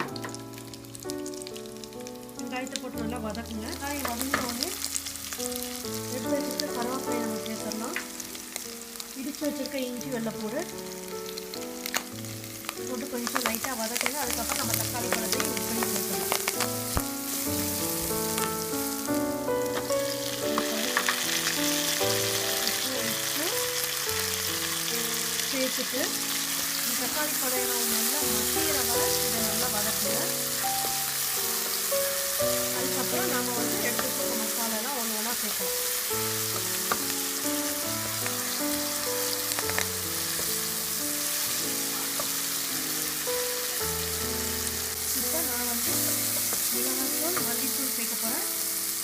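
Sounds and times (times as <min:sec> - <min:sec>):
food sizzling in hot oil: 0:00.0 - 0:49.0
instrumental background music: 0:00.0 - 0:49.0.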